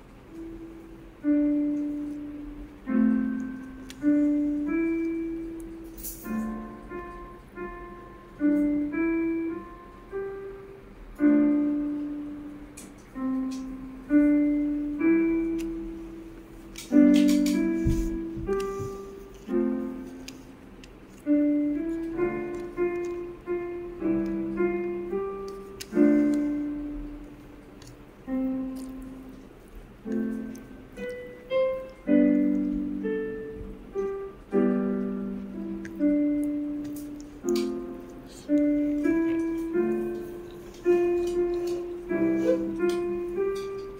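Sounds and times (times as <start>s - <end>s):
slow piano music: 0.0s - 43.9s.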